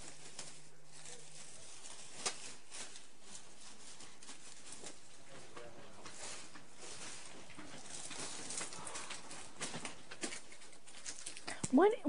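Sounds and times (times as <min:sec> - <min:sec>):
clothes rustling and knocks: 0:00.0 - 0:11.9.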